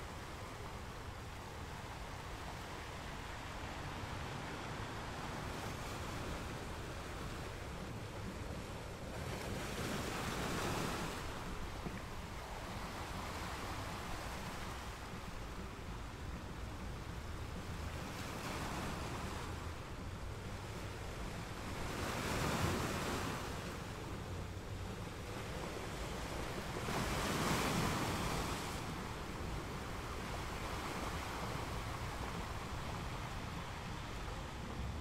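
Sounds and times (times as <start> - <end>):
waves breaking on beach: 0.0 - 35.0.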